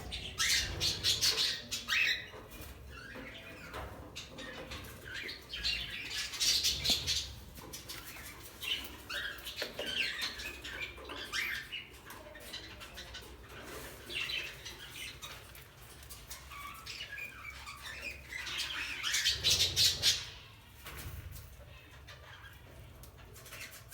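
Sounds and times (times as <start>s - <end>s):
bird chicks squawking and chirping: 0.0s - 23.9s.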